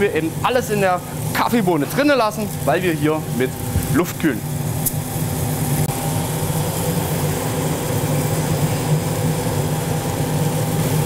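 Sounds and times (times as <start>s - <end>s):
coffee cooling tray humming: 0.0s - 11.0s.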